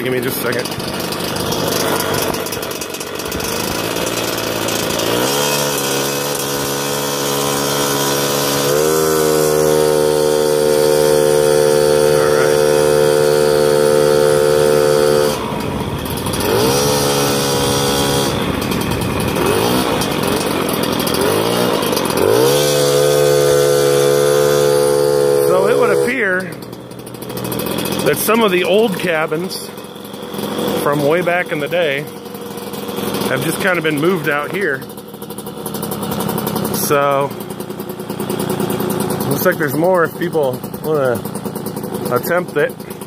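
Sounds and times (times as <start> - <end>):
moped engine running under throttle: 0.0 - 43.0.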